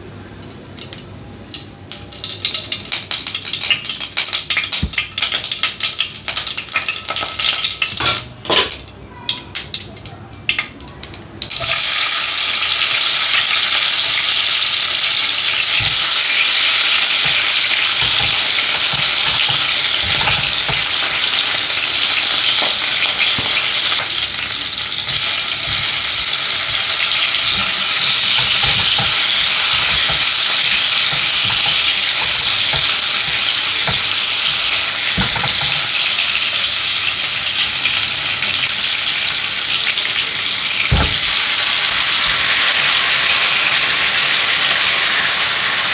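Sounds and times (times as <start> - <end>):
food sizzling in hot oil: 0.8 - 8.0, 11.5 - 45.9.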